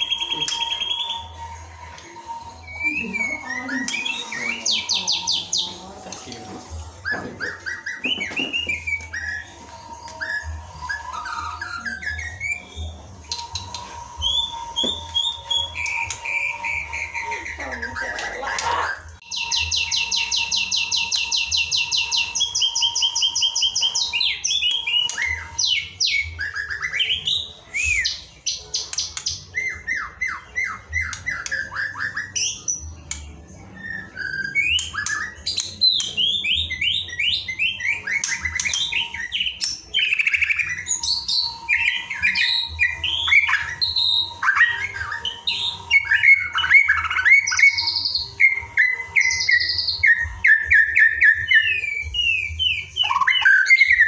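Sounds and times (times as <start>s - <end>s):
songbird singing varied song: 0.0s - 54.0s.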